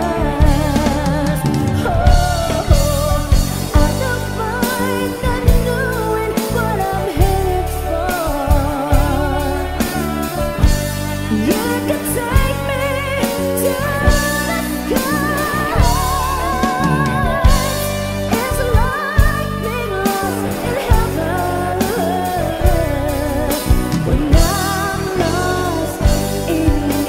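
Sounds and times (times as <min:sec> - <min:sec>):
band with bass and drums: 0:00.0 - 0:27.0
woman singing: 0:00.0 - 0:27.0.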